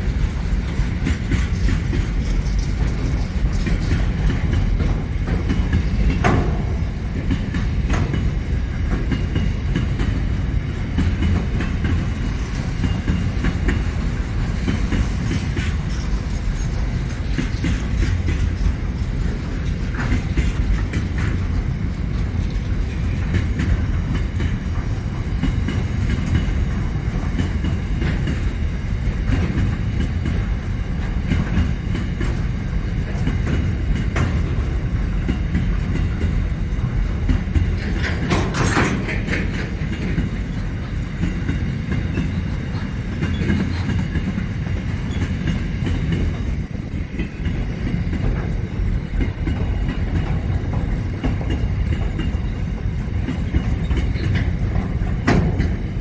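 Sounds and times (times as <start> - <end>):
train wagons rumbling: 0.0 - 56.0
wheels clicking over rail joints: 0.0 - 56.0.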